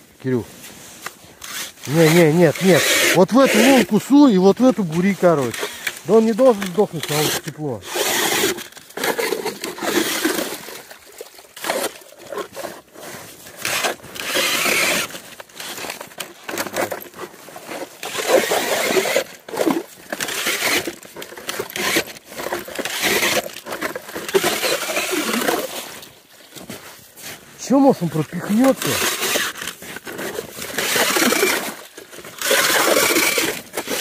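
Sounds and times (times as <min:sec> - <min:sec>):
ice auger crunching and scraping: 0:00.2 - 0:34.0.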